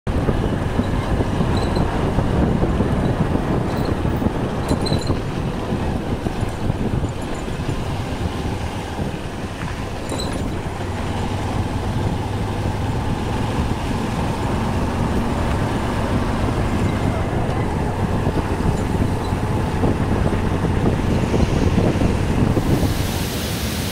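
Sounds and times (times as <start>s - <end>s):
road rumble on dirt road: 0.0s - 23.9s
vehicle engine drone: 0.1s - 23.9s.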